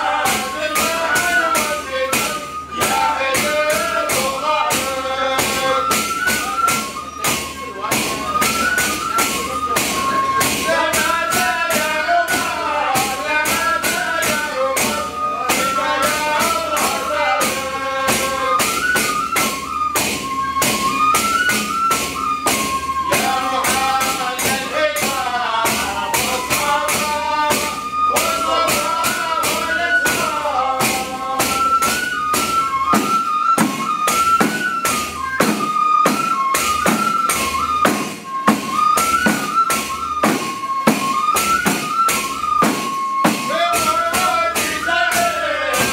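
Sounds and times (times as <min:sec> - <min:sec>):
frame drums beating: 0:00.0 - 0:45.9.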